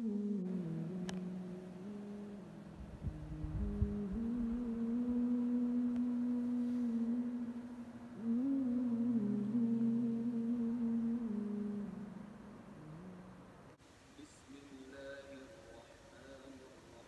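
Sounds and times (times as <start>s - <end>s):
person humming a slow melody: 0.0s - 13.7s.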